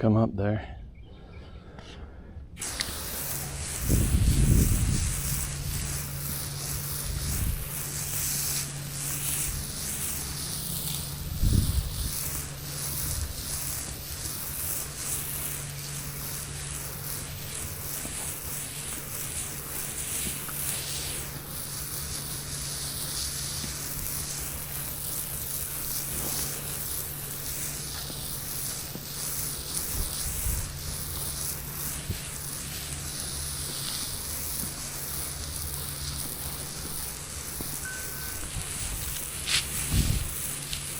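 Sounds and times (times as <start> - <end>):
sprayer hissing: 2.6 - 40.9.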